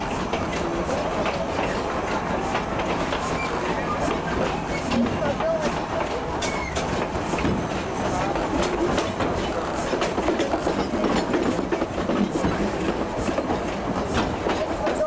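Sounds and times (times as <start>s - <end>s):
train running rumble: 0.0s - 15.0s
train wheels clacking over rail joints: 0.0s - 15.0s.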